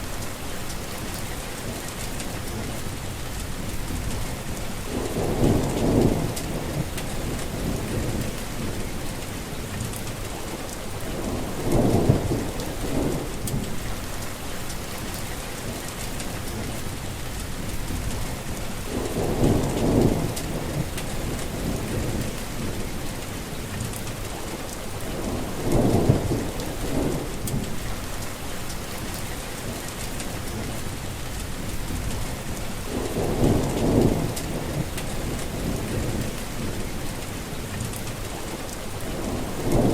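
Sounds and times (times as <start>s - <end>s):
heavy rain falling: 0.0s - 39.9s
thunder rumbling: 0.7s - 14.2s, 15.0s - 39.9s.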